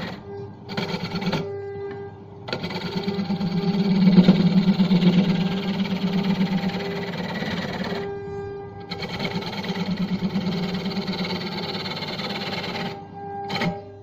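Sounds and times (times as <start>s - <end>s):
lathe motor hum: 0.0s - 14.0s.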